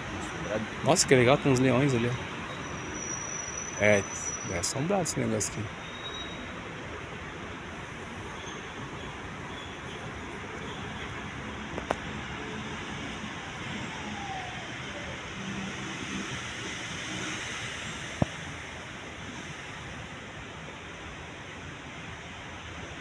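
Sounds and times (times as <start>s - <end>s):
city traffic hum: 0.0s - 23.0s.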